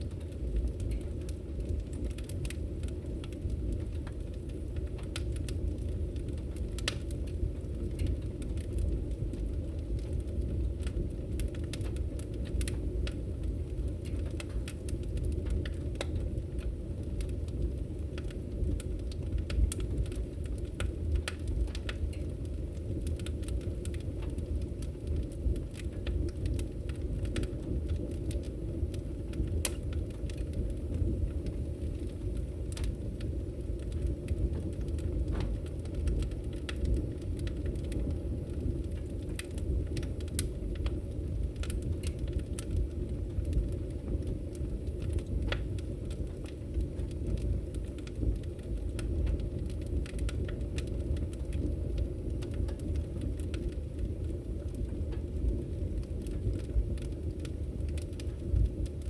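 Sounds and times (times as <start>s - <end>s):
low rumble of flames: 0.0s - 59.0s
wood crackling and popping: 0.0s - 59.0s.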